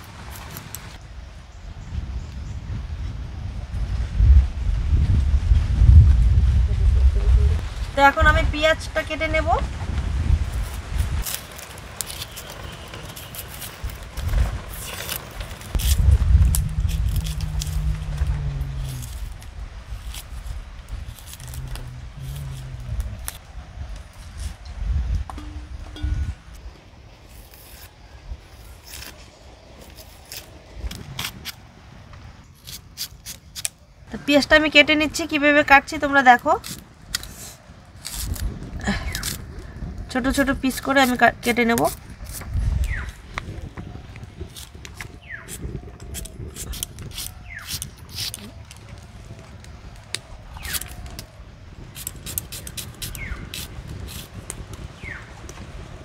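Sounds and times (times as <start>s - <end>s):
wind rumbling on microphone: 0.0s - 56.0s.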